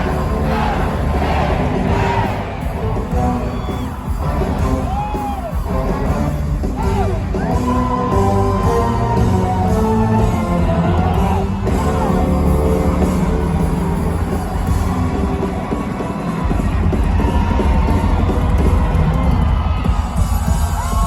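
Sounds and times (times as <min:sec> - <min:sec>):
crowd yelling along: 0:00.0 - 0:21.0
live rock band playing: 0:00.0 - 0:21.0.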